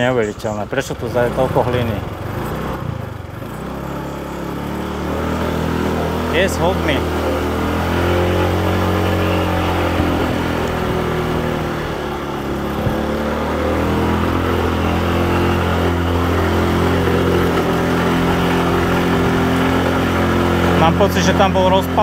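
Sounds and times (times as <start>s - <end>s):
road and wind noise: 0.0s - 22.0s
scooter engine pulling uphill: 0.0s - 22.0s.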